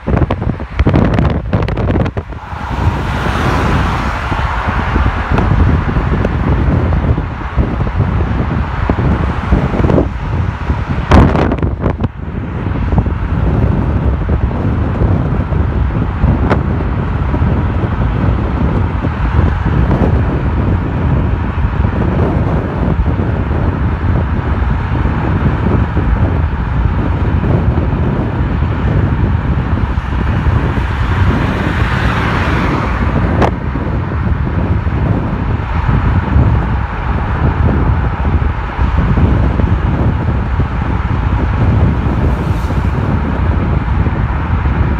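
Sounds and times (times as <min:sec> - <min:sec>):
car engine: 0:00.0 - 0:44.9
city traffic: 0:00.0 - 0:44.9
road noise: 0:00.0 - 0:44.9.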